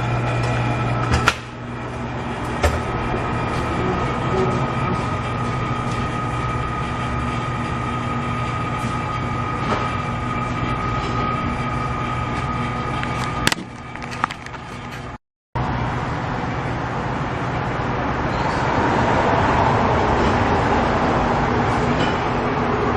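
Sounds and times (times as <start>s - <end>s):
machine whining and humming: 0.0s - 22.9s.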